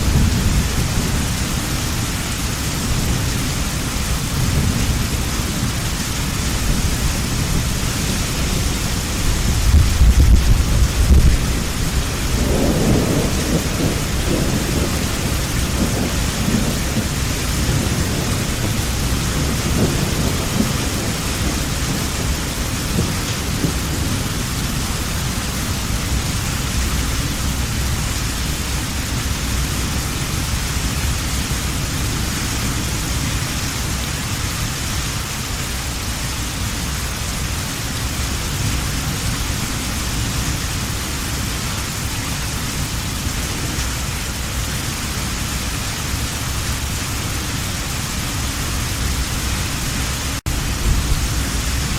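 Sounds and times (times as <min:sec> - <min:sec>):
rolling thunder rumble: 0:00.0 - 0:35.0, 0:37.5 - 0:51.9
heavy rain falling: 0:00.0 - 0:51.9.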